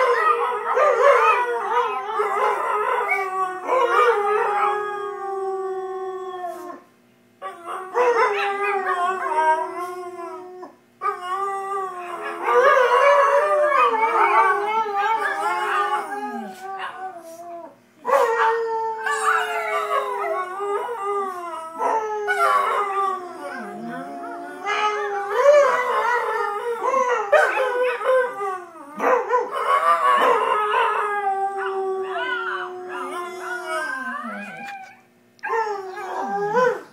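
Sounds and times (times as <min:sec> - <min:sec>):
dog howling: 0:00.0 - 0:36.9.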